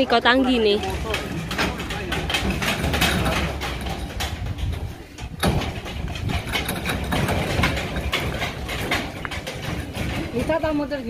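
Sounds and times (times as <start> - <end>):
metal cart rattling over ground: 0.0 - 11.0.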